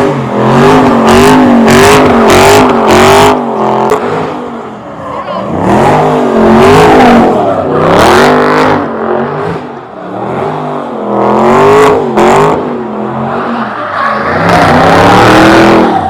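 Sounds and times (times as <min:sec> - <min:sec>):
car engine revving hard: 0:00.0 - 0:04.6, 0:05.4 - 0:16.0.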